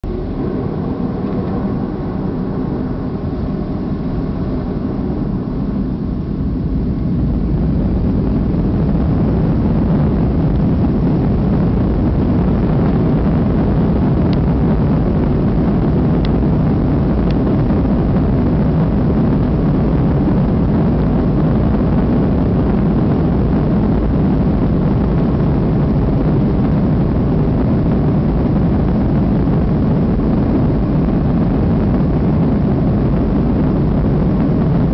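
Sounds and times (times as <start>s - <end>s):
airliner engines during takeoff: 0.0s - 34.9s.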